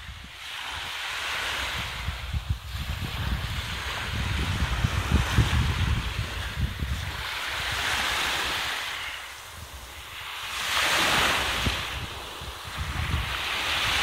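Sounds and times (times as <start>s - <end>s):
waves washing up a sandy shore: 0.0s - 14.0s.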